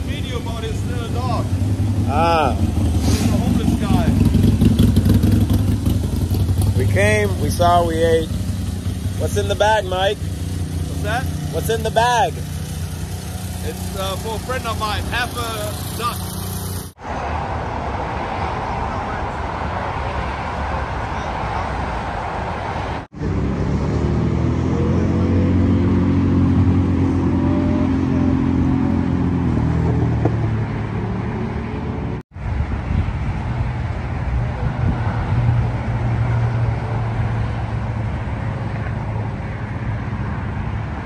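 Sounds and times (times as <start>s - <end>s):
freeway traffic rushing past: 0.0s - 41.0s.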